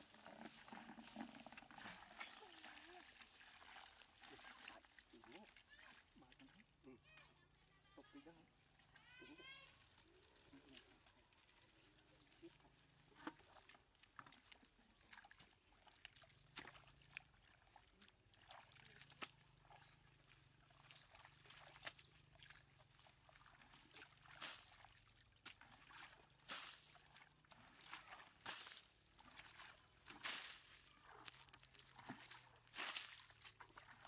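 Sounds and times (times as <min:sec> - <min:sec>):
buckets sloshing in pond water: 0:00.0 - 0:07.0, 0:08.4 - 0:34.0.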